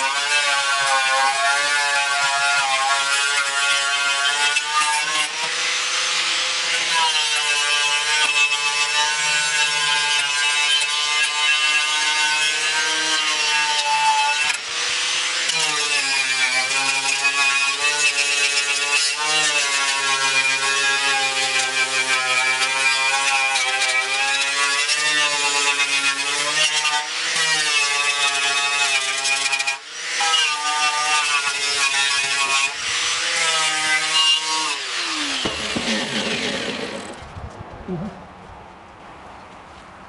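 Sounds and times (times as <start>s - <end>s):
angle grinder wire brush on metal: 0.0s - 37.2s.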